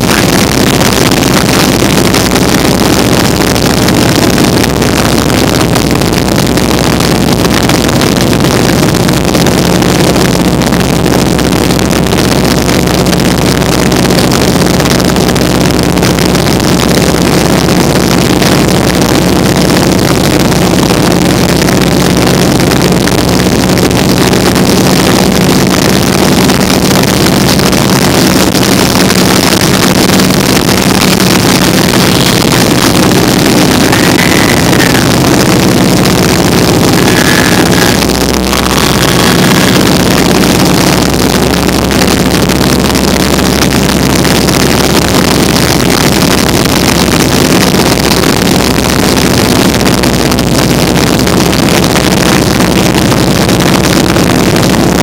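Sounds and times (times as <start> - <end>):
biplane engine drone: 0.0 - 55.0.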